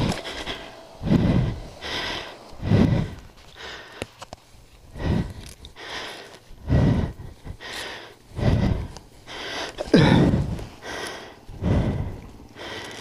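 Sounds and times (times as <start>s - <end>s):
person panting: 0.0s - 13.0s.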